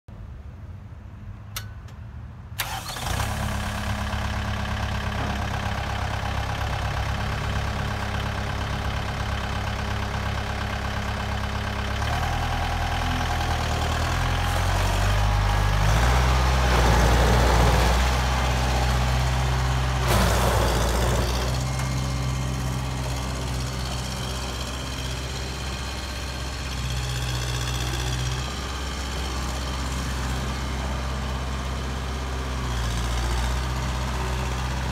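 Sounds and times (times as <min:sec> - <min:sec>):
diesel tractor engine running: 0:02.6 - 0:34.9.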